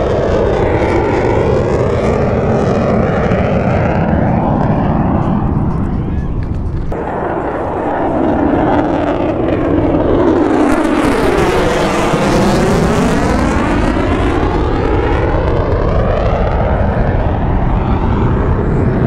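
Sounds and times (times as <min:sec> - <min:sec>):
fighter jet passing overhead: 0:00.0 - 0:19.0.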